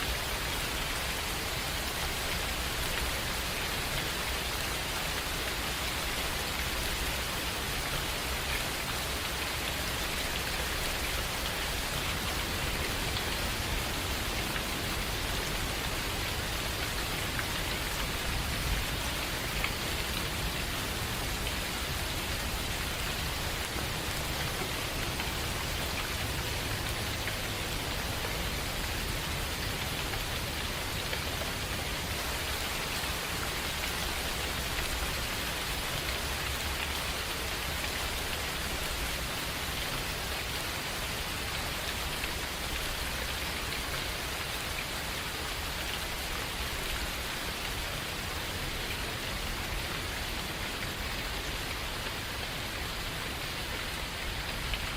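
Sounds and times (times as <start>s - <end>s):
rain falling in a forest: 0.0s - 54.9s.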